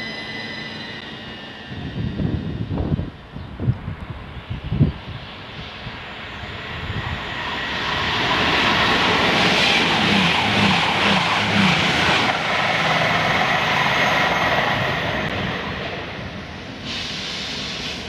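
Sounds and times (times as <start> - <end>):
diesel train engine: 0.0 - 18.0.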